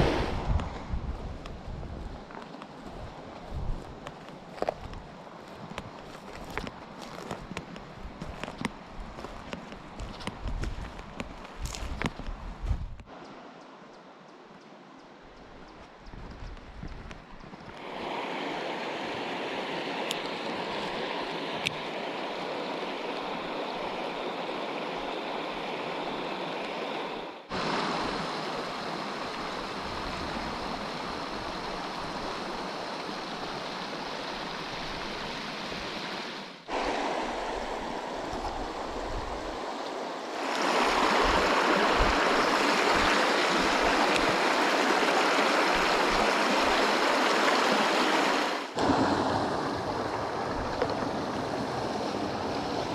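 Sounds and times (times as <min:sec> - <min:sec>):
water running over rocks: 0:00.0 - 0:12.9, 0:16.1 - 0:52.9.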